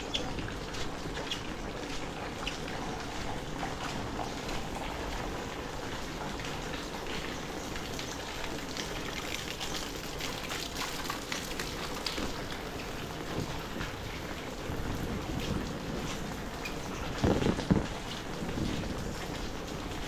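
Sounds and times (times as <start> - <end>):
heavy rain spattering: 0.0 - 20.0.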